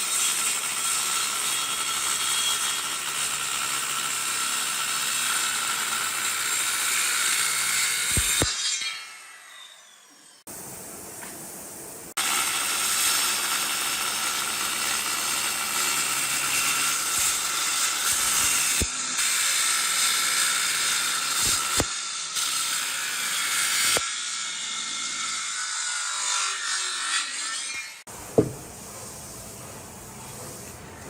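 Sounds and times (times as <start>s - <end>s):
power tool working wood: 0.0s - 10.4s, 12.2s - 28.7s.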